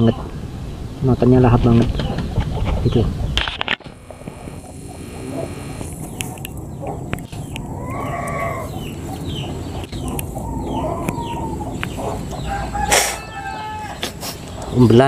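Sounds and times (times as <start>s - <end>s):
chickens clucking: 1.5s - 15.0s.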